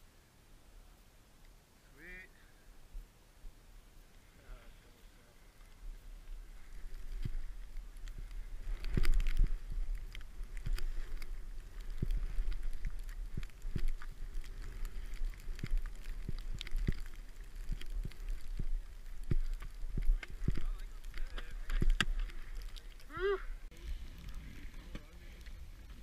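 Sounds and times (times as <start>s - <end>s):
wind rumbling on microphone: 5.0s - 26.0s.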